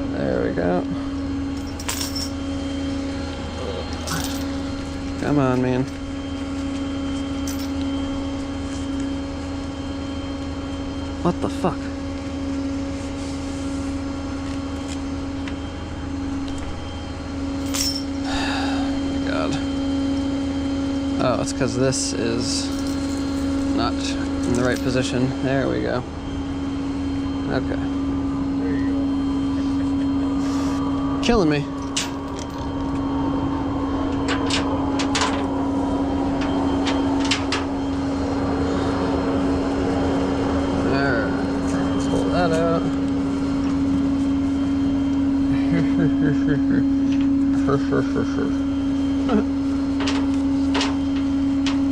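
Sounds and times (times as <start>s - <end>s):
vehicle engine running: 0.0s - 51.9s.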